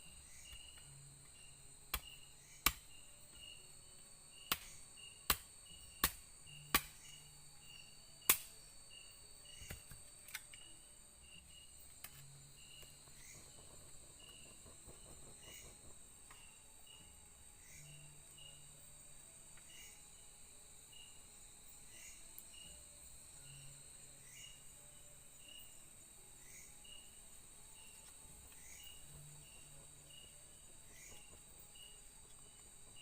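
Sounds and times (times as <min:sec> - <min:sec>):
cricket-like chirp: 0:00.0 - 0:33.0
high-pitched insect whine: 0:00.0 - 0:33.0.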